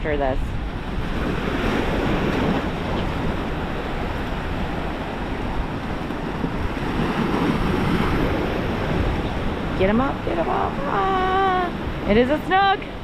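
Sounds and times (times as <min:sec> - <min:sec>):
ocean waves and surf: 0:00.0 - 0:13.0
wind on microphone: 0:00.0 - 0:13.0.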